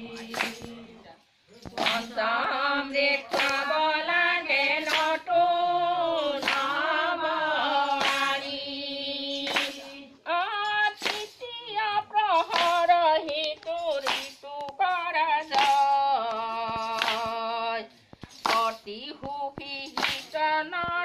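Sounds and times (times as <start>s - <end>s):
hand claps: 0.0s - 0.9s, 1.6s - 21.0s
women singing: 0.0s - 21.0s.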